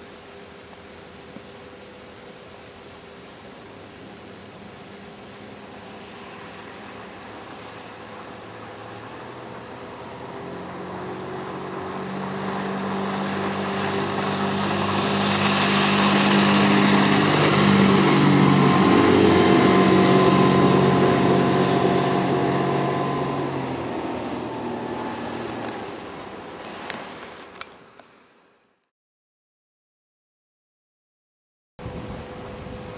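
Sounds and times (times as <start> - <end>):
outboard motor hum: 0.0 - 28.3, 31.8 - 32.9
water and spray hissing: 0.0 - 28.5.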